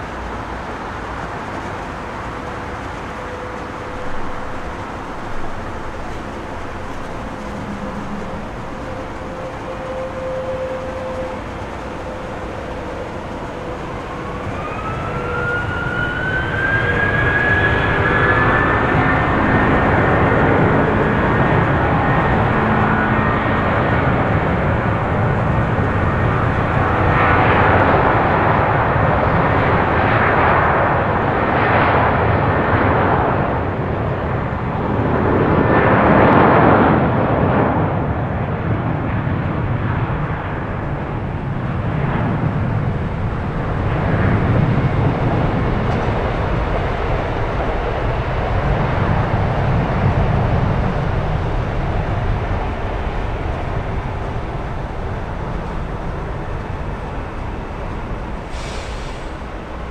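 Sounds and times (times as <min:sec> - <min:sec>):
jet engine noise: 0:00.0 - 0:59.9.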